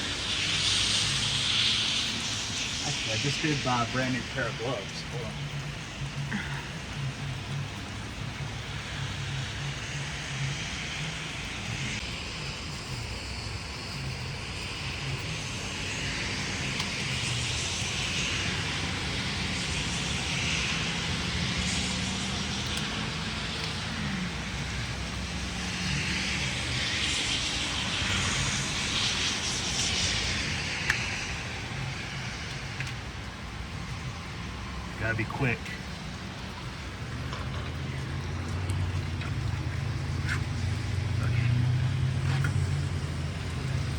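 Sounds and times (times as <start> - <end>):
traffic engine drone: 0.0 - 43.9
vehicles passing: 0.0 - 43.9.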